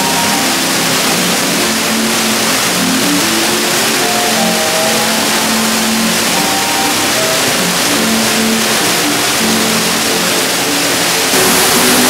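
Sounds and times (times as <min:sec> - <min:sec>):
waterfall pouring into a pool: 0:00.0 - 0:12.0.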